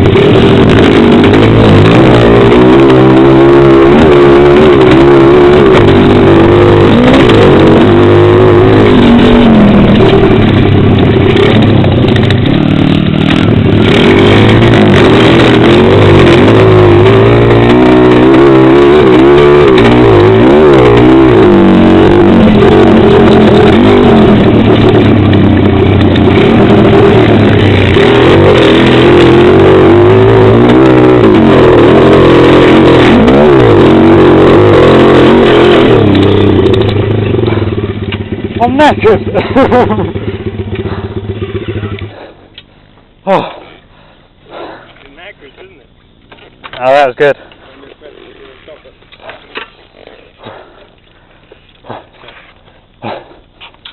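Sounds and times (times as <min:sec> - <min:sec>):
pit bike engine revving: 0:00.0 - 0:53.9.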